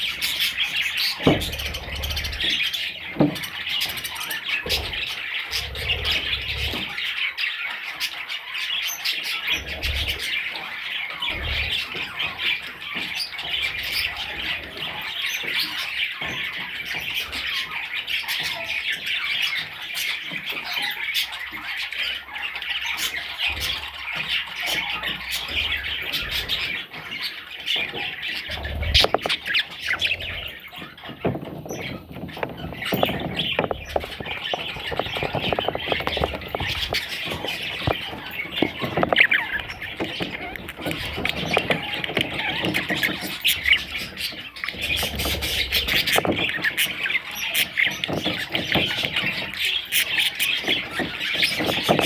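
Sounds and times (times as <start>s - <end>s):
budgerigar chicks chirping: 0.0s - 52.0s.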